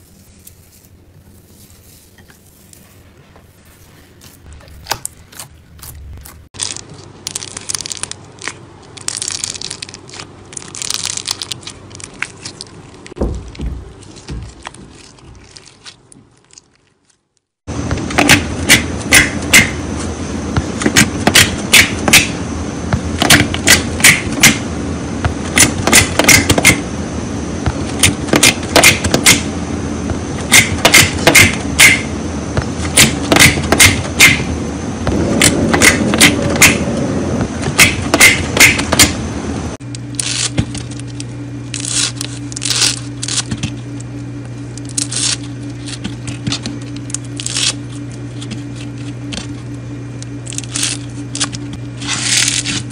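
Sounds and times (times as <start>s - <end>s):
steady background hum: 0.0s - 52.9s.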